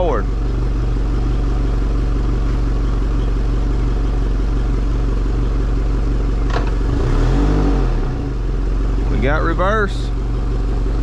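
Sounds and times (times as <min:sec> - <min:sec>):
outboard engine idling: 0:00.0 - 0:06.8, 0:08.4 - 0:11.0.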